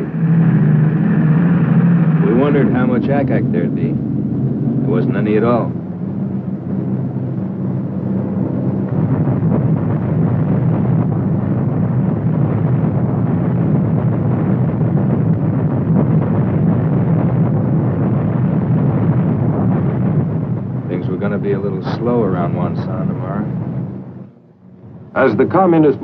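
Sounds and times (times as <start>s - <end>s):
rumble of bomb explosions: 0.0s - 26.0s.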